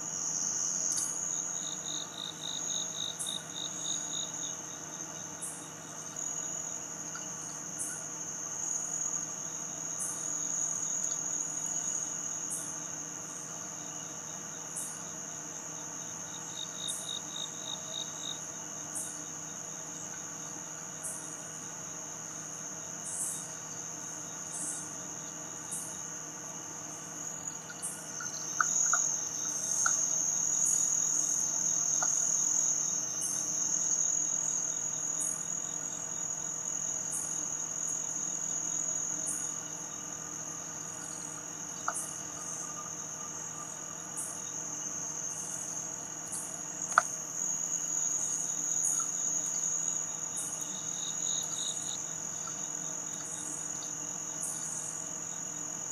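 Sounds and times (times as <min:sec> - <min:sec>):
insects trilling: 0:00.0 - 0:55.9
pulsing insect call: 0:00.0 - 0:55.9.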